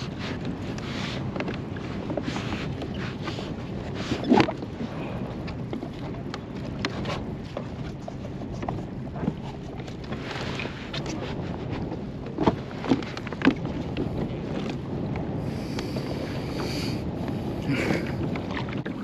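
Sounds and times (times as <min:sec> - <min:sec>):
water moving against kayak: 0:00.0 - 0:19.0
wind buffeting microphone: 0:00.0 - 0:19.0.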